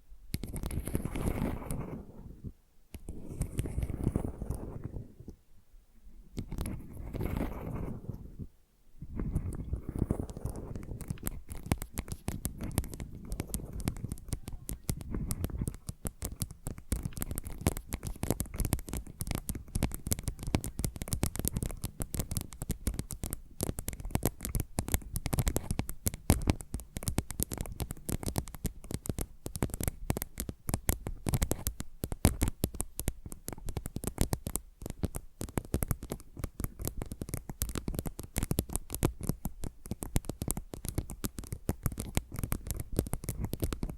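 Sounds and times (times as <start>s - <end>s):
fingernails tapping and scratching: 3.0s - 5.4s, 6.4s - 8.4s, 9.1s - 43.9s.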